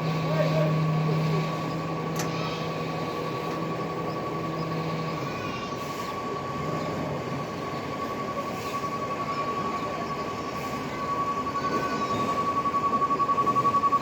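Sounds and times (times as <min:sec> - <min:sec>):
low hum: 0:00.0 - 0:14.0
steady high-pitched tone: 0:00.0 - 0:14.0
truck engine running: 0:00.0 - 0:14.0.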